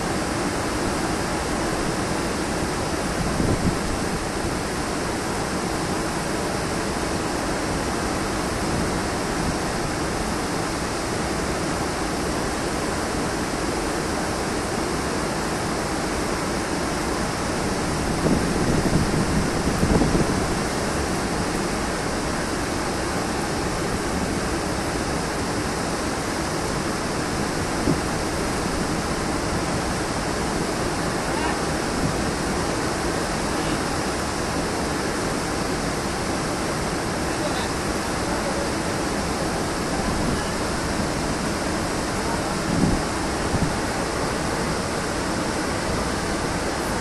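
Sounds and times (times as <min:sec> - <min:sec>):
rushing flood water: 0:00.0 - 0:47.0.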